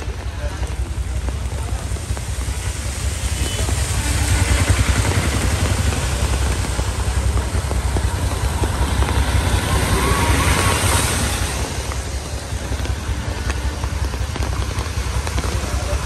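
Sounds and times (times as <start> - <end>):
auto-rickshaw engines running: 0.0 - 16.0
heavy rain hiss: 0.0 - 16.0
tyres splashing water: 0.0 - 16.0.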